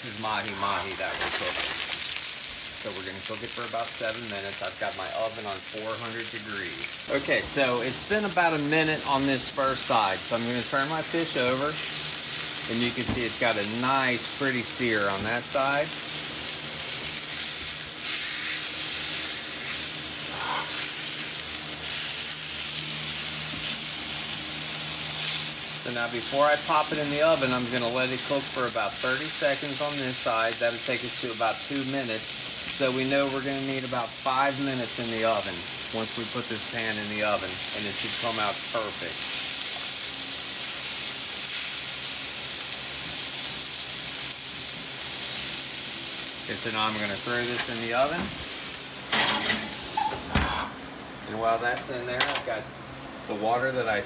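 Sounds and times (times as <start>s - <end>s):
fish sizzling in a skillet: 0.0s - 50.2s.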